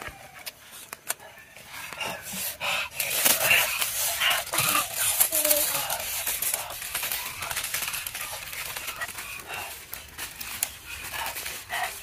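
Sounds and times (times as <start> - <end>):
aluminium foil crinkling: 1.8 - 12.0.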